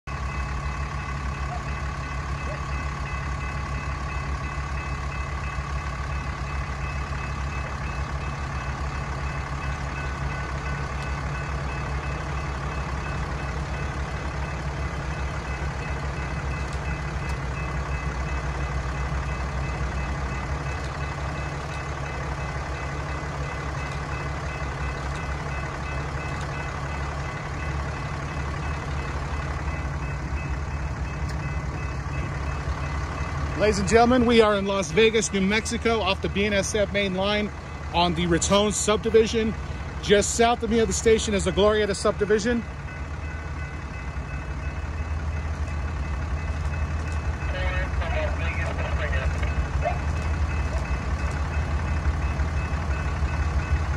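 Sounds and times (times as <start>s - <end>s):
locomotive engine drone: 0.0s - 53.9s.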